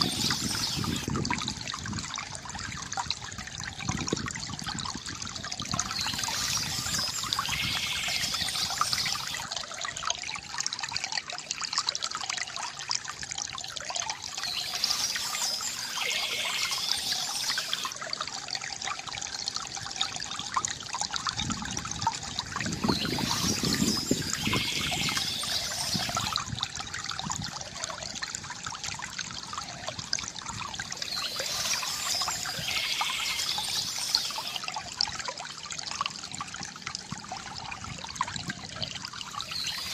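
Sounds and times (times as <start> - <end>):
fountain water trickling and gurgling: 0.0 - 39.9.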